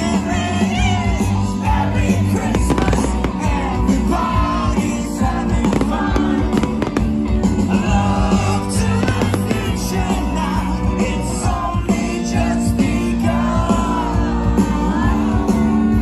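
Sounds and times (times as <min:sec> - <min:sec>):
amplified pop music: 0:00.0 - 0:16.0.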